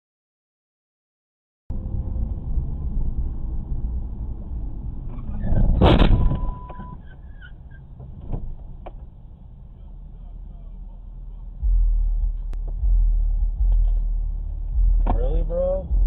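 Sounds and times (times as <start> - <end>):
car road and engine rumble: 1.7 - 16.0.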